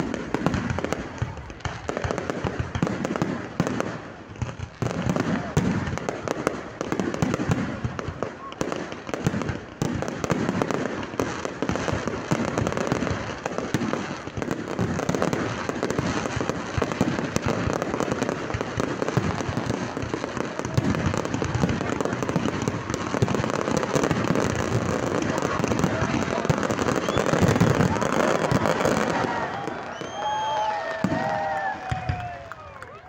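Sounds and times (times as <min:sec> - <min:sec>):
fireworks crackling and popping: 0:00.0 - 0:33.0.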